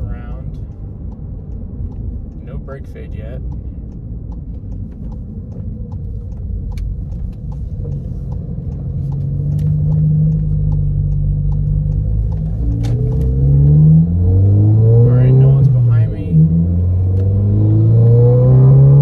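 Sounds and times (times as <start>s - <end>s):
light steady ticking: 0.0s - 17.3s
car engine accelerating: 0.0s - 19.0s.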